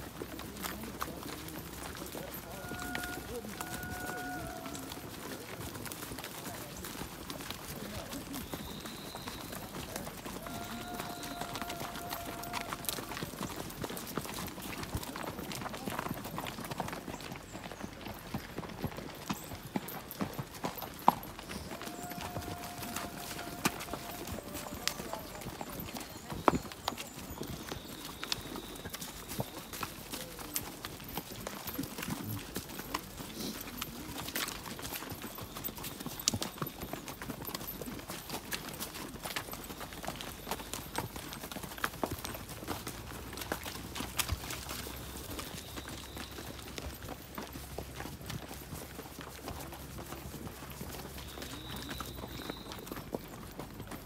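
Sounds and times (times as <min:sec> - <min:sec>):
horse hooves clip-clopping on dirt: 0:00.0 - 0:54.0.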